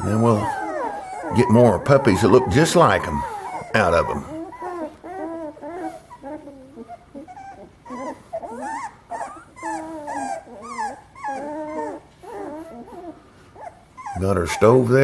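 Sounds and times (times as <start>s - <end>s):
puppies whining and whimpering: 0.0s - 15.0s.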